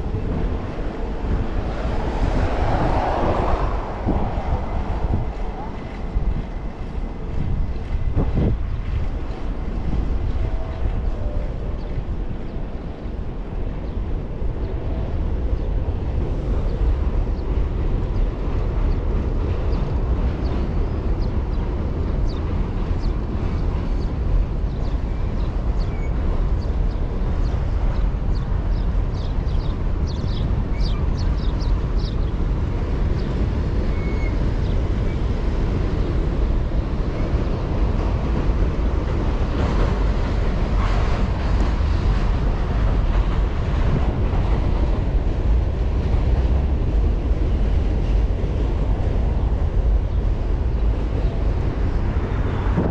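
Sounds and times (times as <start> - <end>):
road noise: 0.0 - 52.9
wind rumble: 0.0 - 52.9.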